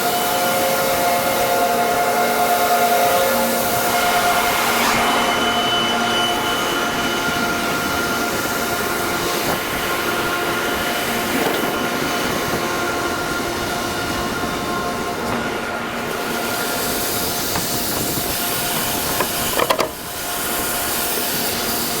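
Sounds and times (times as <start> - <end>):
machinery drone: 0.0 - 22.0
steady machine whines: 0.0 - 22.0.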